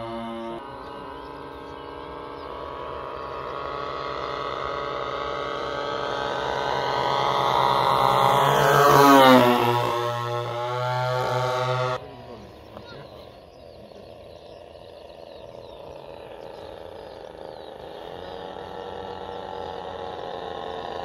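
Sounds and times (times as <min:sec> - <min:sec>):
model plane engines: 0:00.0 - 0:21.0.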